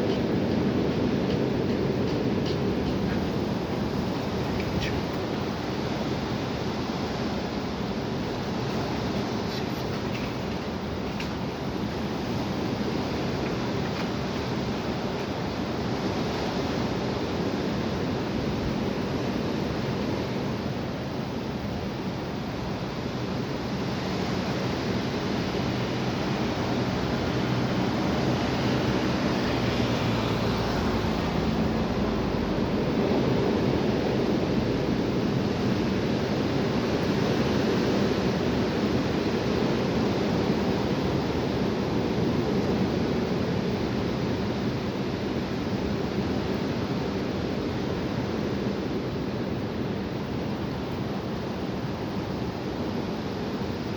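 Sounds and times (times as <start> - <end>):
strong wind blowing: 0.0 - 53.9.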